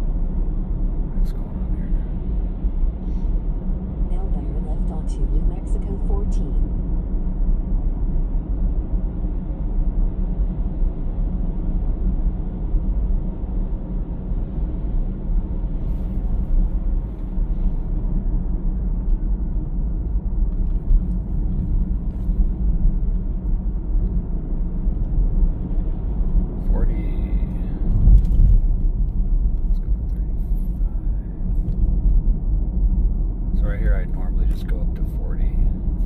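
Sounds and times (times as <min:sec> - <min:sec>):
road and tyre rumble in car: 0:00.0 - 0:36.0.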